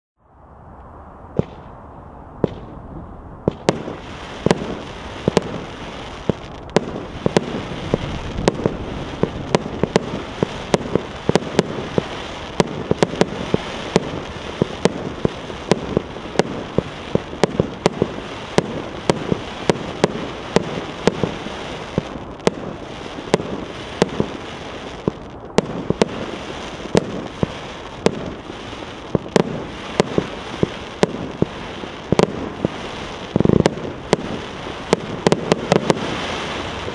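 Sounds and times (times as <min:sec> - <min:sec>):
crackling firework stars: 0:00.3 - 0:36.9
firework shots: 0:01.3 - 0:01.8, 0:02.4 - 0:36.9.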